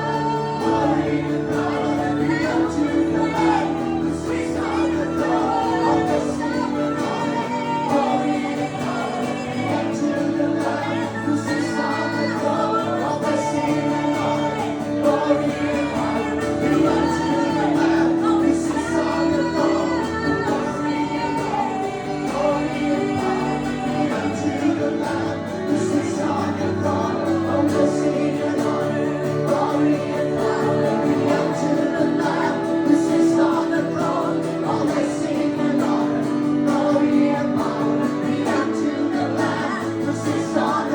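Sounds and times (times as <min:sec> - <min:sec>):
voices singing together: 0:00.0 - 0:40.9.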